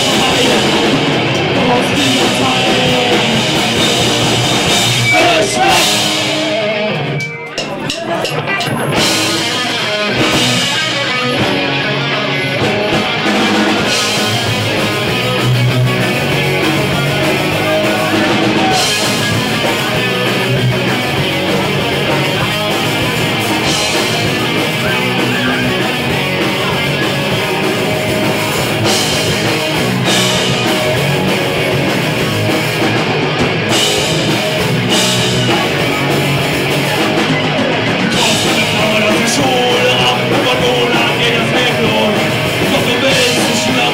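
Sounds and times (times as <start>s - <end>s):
bass guitar: 0.0s - 43.9s
drum kit: 0.0s - 43.9s
electric guitars: 0.0s - 43.9s.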